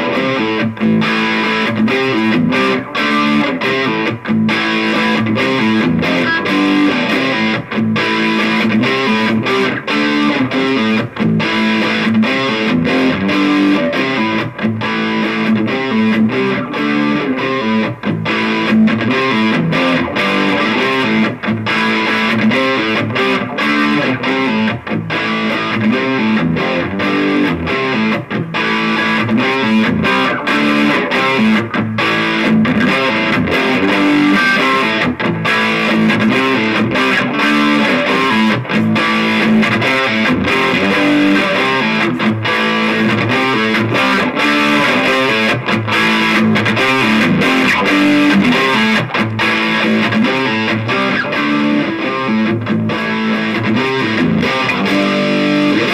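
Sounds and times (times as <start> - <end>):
distorted electric guitar riffing: 0.0 - 55.9.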